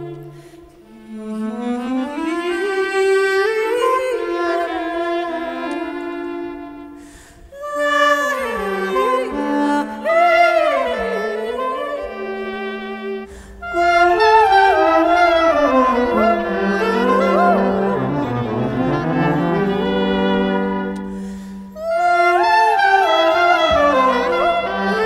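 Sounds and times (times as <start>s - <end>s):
bowed strings: 0.0s - 25.0s
clarinet: 0.0s - 25.0s.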